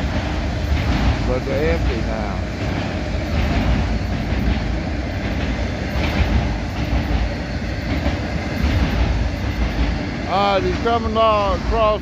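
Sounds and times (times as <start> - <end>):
freight train rolling past: 0.0 - 12.0.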